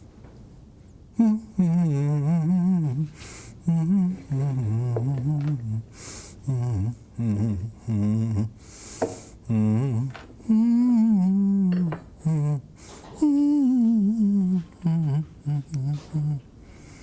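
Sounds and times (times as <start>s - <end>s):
person humming: 1.1s - 17.0s.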